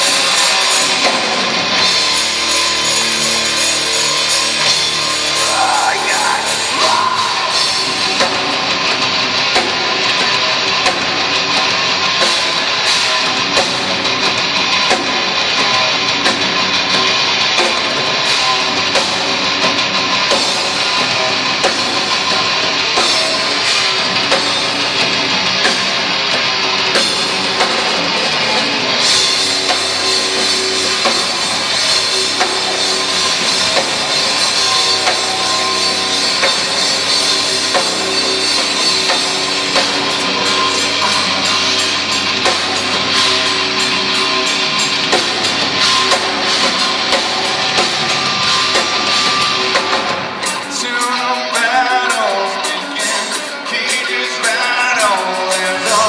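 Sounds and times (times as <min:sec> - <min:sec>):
distorted electric guitars: 0:00.0 - 0:56.0
pounding drum kit: 0:00.0 - 0:56.0.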